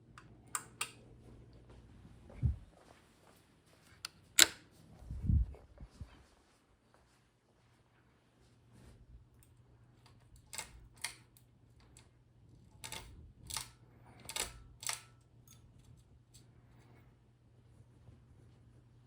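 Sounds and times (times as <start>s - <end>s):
ceiling fan motor hum: 0.0s - 19.0s.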